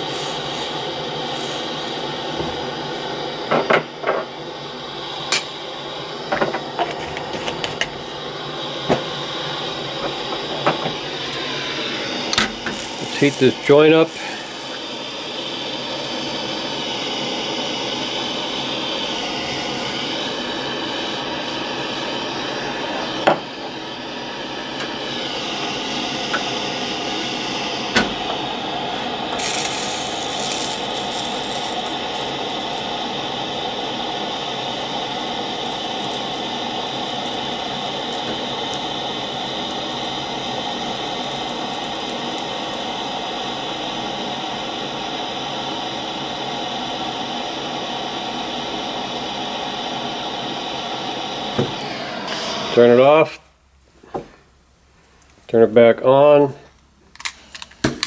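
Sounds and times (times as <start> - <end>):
gas soldering iron hissing: 0.0 - 53.3.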